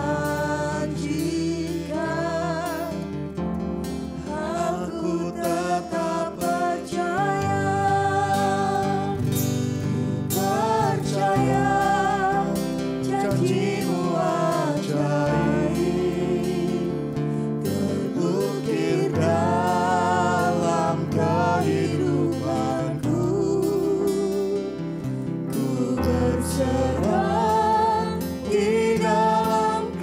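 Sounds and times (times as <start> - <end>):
women singing worship song: 0.0 - 3.3, 3.9 - 30.0
keyboard chords: 0.0 - 30.0
strummed acoustic guitar: 0.0 - 30.0.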